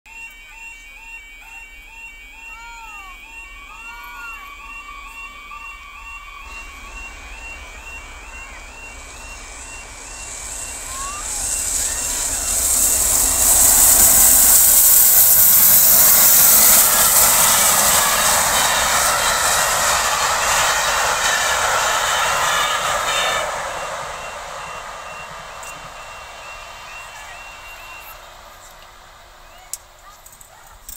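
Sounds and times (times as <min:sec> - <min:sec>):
level crossing warning alarm: 0:00.1 - 0:30.3
steam train passing: 0:00.1 - 0:30.9.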